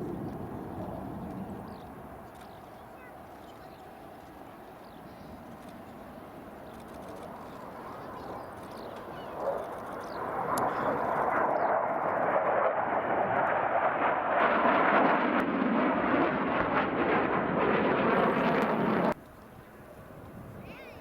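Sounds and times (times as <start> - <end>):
jet engine roaring past: 0.0 - 21.0.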